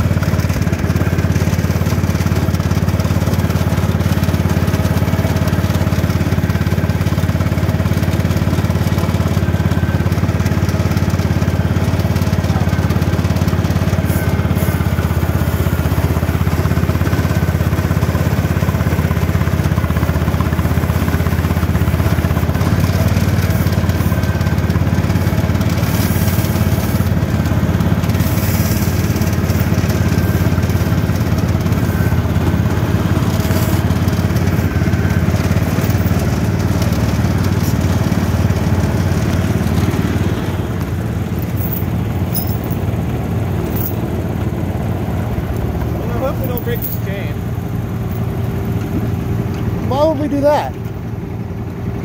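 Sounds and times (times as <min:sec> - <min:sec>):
garden tractor engine running: 0:00.0 - 0:52.0.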